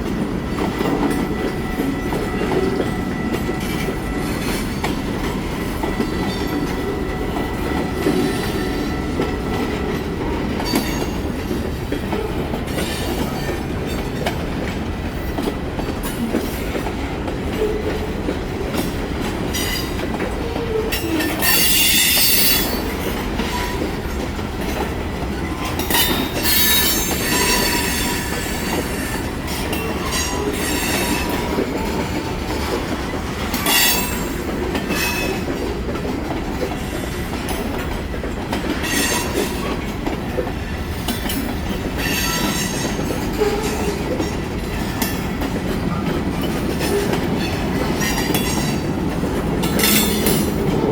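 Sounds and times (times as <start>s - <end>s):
freight train cars rolling: 0.0s - 50.9s.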